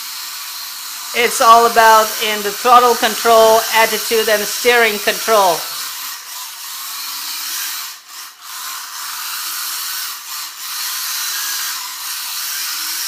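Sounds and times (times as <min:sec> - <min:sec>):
small electric motor whining: 0:00.0 - 0:04.7, 0:05.6 - 0:13.0.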